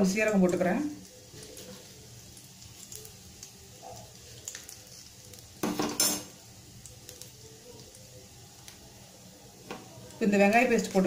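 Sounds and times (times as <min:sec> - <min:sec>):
spices crackling in hot oil: 0:00.0 - 0:11.0.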